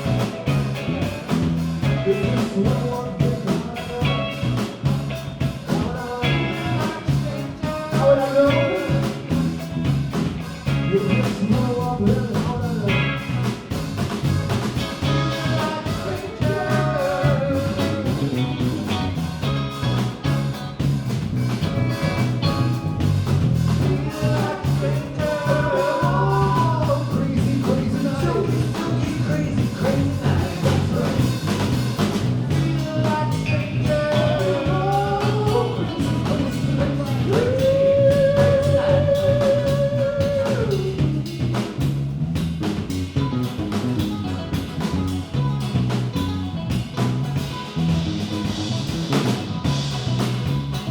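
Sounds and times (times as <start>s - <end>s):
bass guitar: 0.0s - 50.9s
electric guitar: 0.0s - 50.9s
live band playing: 0.0s - 50.9s.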